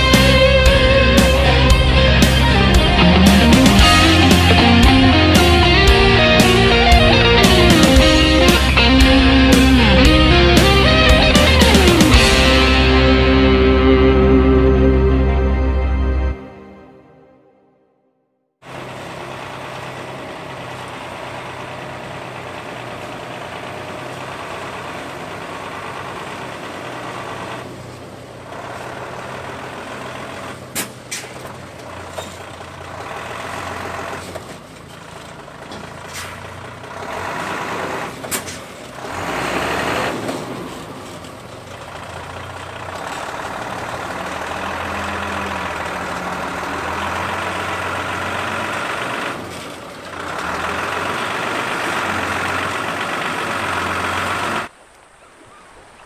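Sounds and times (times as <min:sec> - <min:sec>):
truck diesel engine running: 0:00.0 - 0:17.0, 0:18.6 - 0:54.7.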